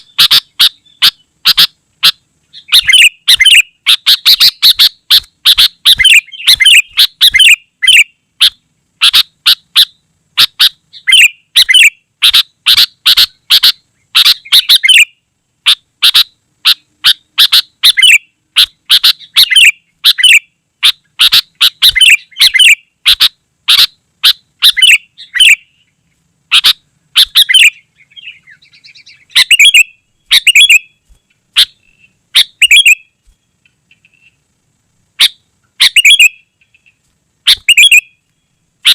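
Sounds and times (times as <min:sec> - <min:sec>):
bulbul chattering song: 0:00.0 - 0:38.9.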